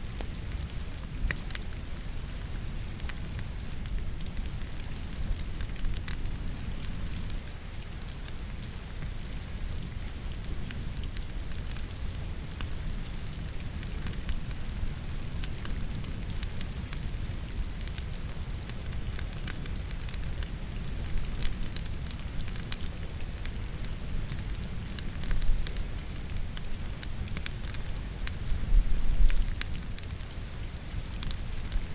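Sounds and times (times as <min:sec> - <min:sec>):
logs crackling in a fireplace: 0:00.0 - 0:31.9.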